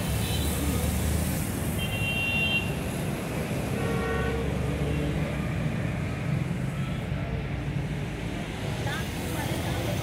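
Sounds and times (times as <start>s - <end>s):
cars passing on busy road: 0.0s - 10.0s.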